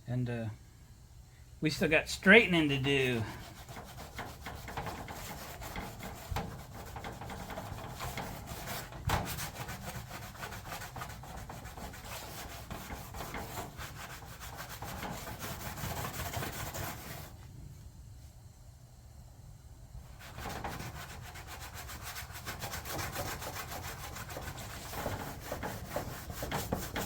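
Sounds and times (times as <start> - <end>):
scouring pad scrubbing metal panel: 1.9 - 17.4, 20.1 - 27.0.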